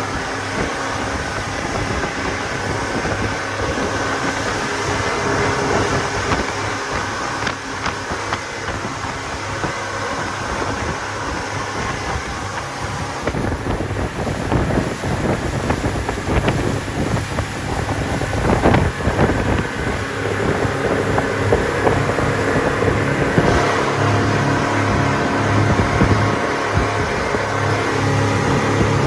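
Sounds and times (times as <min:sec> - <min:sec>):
motorboat engine running: 0:00.0 - 0:29.0
wind buffeting microphone: 0:00.0 - 0:29.0.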